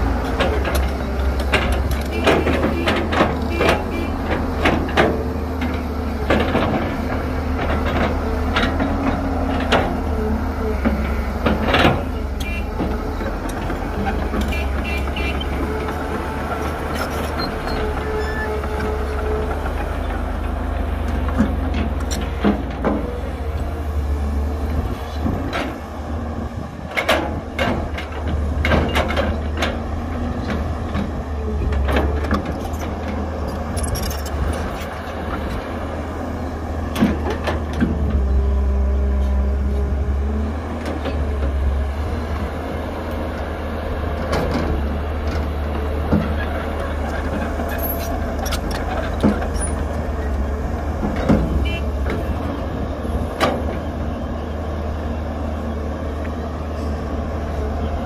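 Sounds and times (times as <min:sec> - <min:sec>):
diesel engines rumbling: 0:00.0 - 0:58.0
excavator knocks and clatter: 0:00.0 - 0:58.0.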